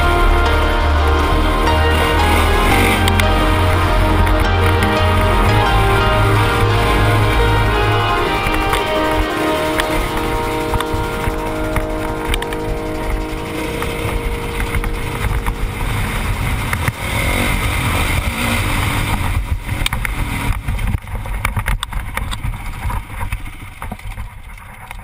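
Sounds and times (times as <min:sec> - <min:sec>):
dirt bike engine running: 0:00.0 - 0:24.4.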